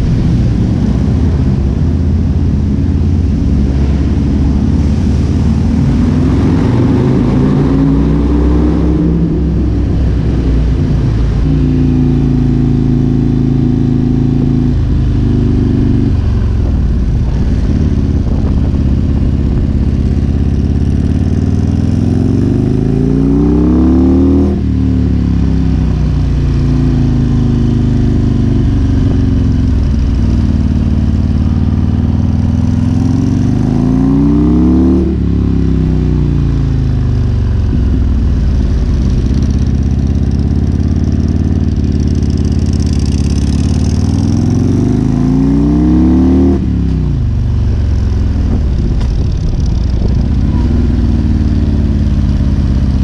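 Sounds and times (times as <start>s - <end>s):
motorcycle engine shifting gears: 0.0s - 53.0s.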